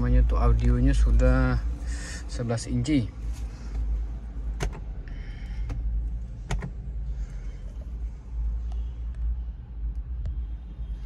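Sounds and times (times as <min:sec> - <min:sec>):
low steady cabin rumble: 0:00.0 - 0:11.0.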